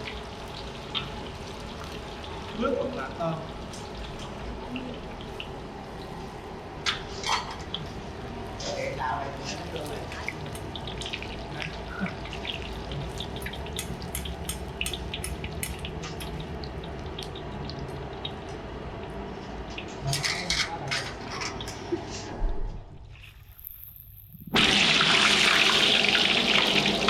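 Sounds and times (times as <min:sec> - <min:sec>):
food deep-frying in hot oil: 0:00.0 - 0:22.1, 0:23.1 - 0:27.0.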